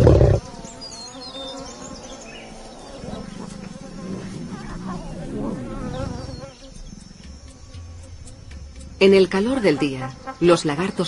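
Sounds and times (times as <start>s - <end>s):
flies buzzing: 0.0s - 11.0s.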